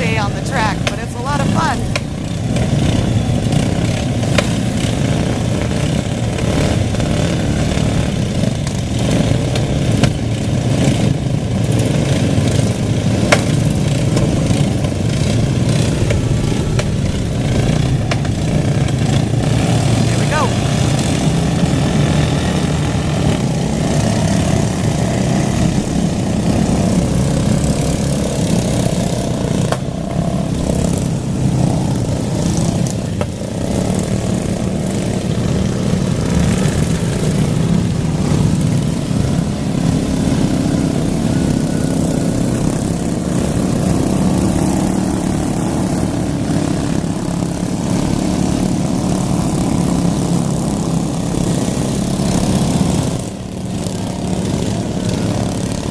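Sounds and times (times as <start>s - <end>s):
racing lawn mower engines: 0.0s - 55.9s.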